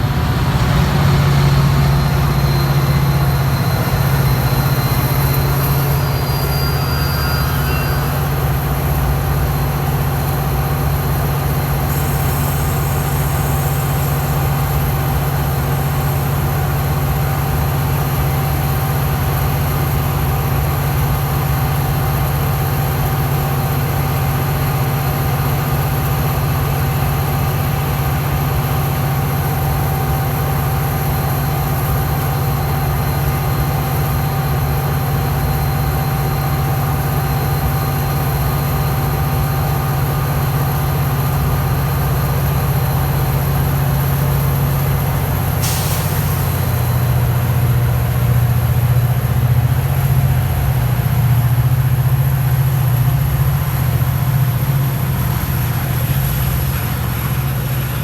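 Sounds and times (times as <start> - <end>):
diesel locomotive engine idling: 0.0 - 58.0.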